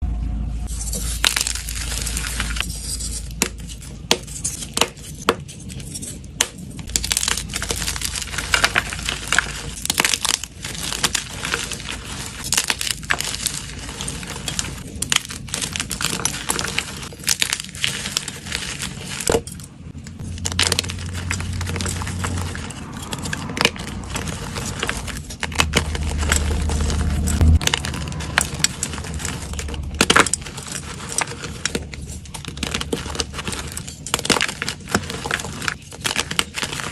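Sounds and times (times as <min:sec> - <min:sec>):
chalk crunching and crackling: 0:00.6 - 0:36.9.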